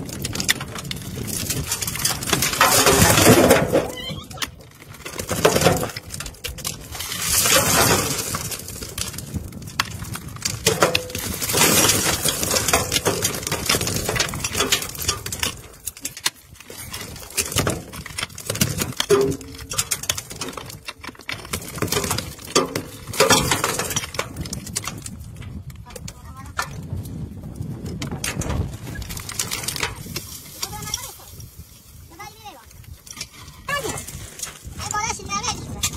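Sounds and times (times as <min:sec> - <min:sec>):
stones clattering and sliding: 0:00.0 - 0:35.9.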